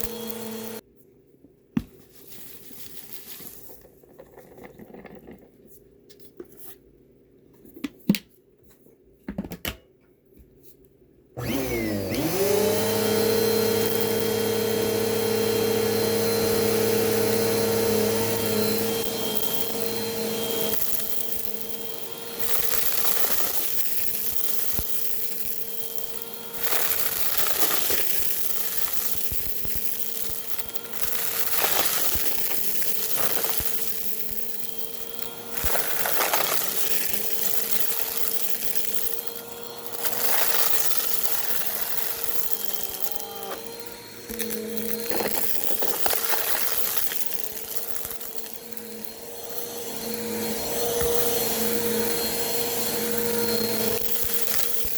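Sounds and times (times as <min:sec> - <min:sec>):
vacuum cleaner running: 0:00.0 - 0:00.8, 0:11.4 - 0:54.9.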